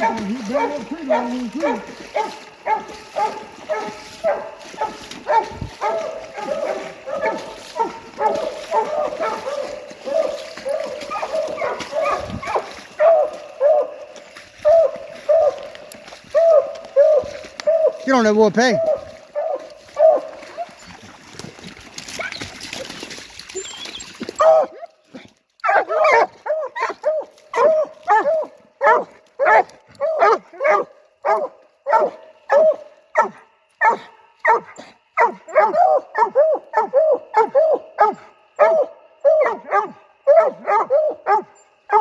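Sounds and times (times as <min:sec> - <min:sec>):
dog barking: 0:00.0 - 0:20.8, 0:24.4 - 0:25.0, 0:25.6 - 0:42.0.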